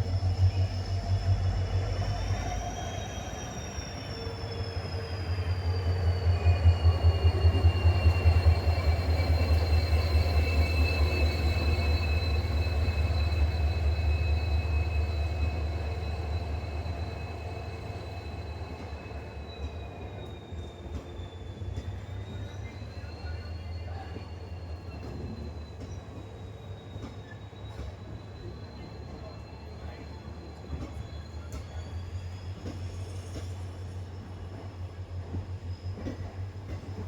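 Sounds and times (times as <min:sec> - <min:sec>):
train rumbling on rails: 0:00.0 - 0:37.0
high thin wheel squeal: 0:01.9 - 0:34.9.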